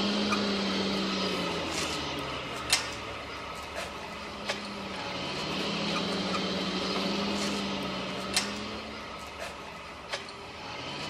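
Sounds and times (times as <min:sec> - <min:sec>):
machine hum: 0:00.0 - 0:11.0
hiss: 0:01.4 - 0:10.3.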